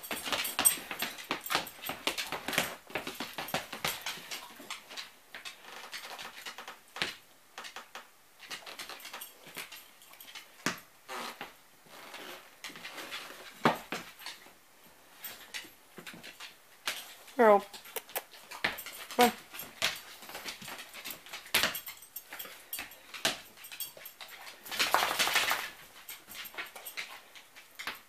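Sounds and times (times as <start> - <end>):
dog paws tapping on wood floor: 0.0 - 28.0.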